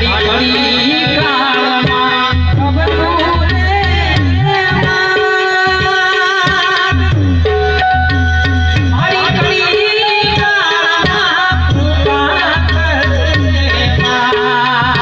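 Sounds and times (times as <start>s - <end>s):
harmonium melody: 0.0s - 15.0s
tabla beating rhythm: 0.0s - 15.0s.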